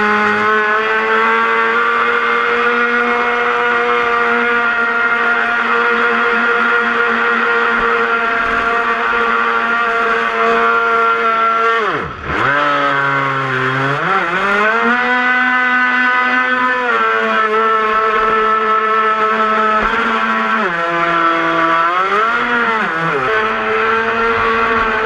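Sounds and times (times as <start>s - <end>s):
rc speedboat electric motor whining: 0.0s - 25.0s.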